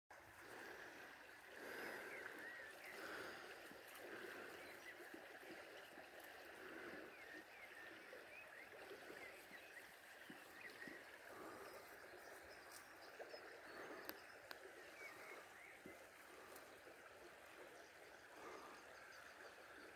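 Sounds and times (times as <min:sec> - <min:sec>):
rush of moving water: 0:00.1 - 0:19.9.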